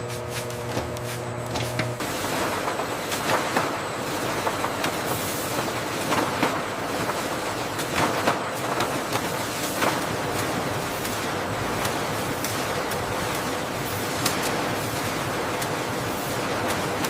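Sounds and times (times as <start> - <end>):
factory machinery running: 0.0 - 17.0.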